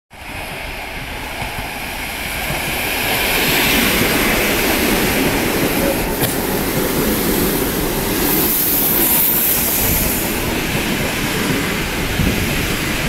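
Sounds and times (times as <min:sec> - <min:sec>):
electric train passing: 0:00.2 - 0:13.0.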